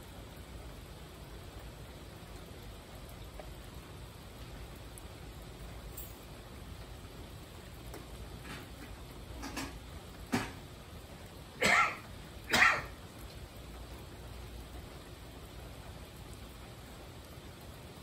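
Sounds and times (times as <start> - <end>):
faint rain hiss: 0.0 - 18.0.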